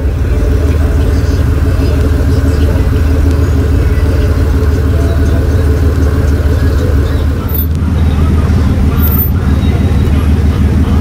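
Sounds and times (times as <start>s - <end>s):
car engine and exhaust rumbling: 0.0s - 11.0s.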